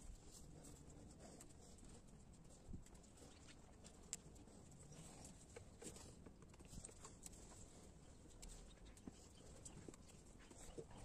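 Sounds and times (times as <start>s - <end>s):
light clicks and taps: 0.6s - 11.0s.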